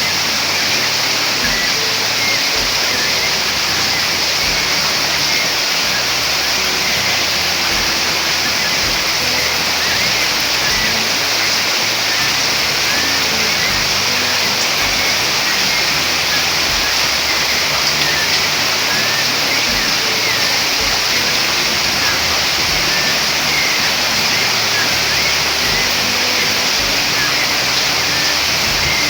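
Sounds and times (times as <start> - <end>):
bird chirping faintly: 0.0 - 29.0
heavy rain falling: 0.0 - 29.0.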